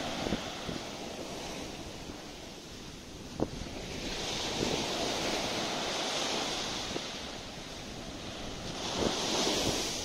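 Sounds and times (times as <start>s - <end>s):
waves washing on sandy beach: 0.0s - 10.0s.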